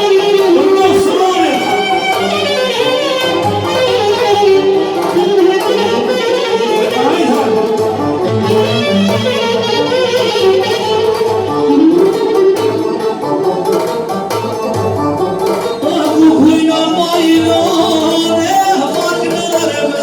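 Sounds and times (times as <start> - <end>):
plucked strings and violin melody: 0.0 - 20.0.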